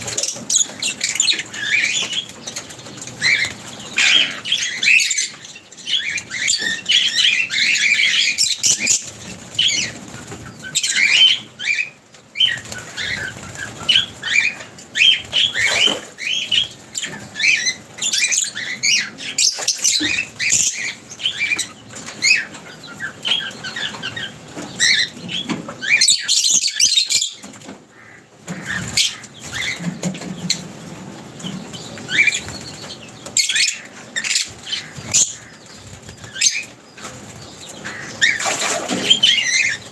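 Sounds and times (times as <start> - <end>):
wings fluttering: 0.0 - 11.7, 12.3 - 26.0, 28.5 - 39.9
birds chirping and calling: 0.0 - 39.9.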